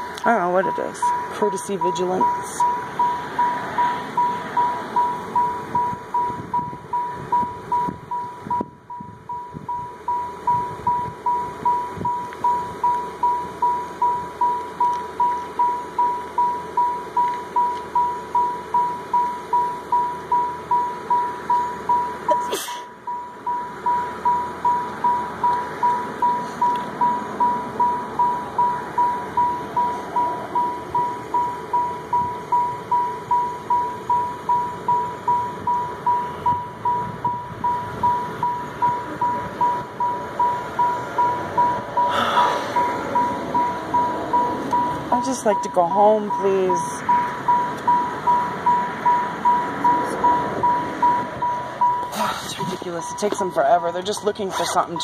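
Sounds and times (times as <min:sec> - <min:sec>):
vehicle warning chime dinging: 0:00.0 - 0:55.0.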